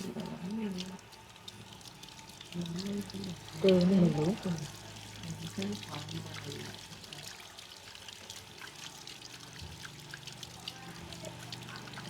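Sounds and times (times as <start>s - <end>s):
small drips and spatters: 0.0s - 12.0s
water trickling and splashing: 0.0s - 12.0s.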